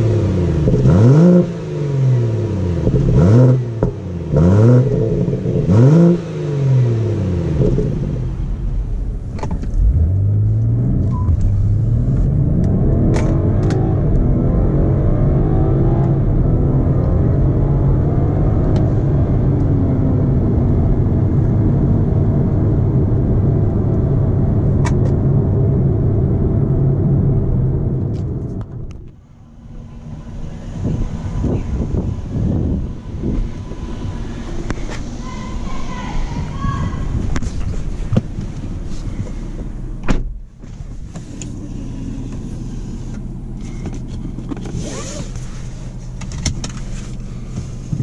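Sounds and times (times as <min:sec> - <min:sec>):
car engine revving: 0:00.0 - 0:48.0
road noise: 0:00.0 - 0:48.0.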